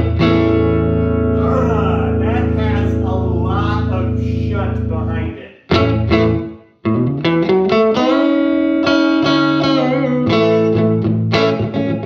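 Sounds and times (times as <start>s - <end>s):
overdriven electric guitar: 0.0s - 12.0s.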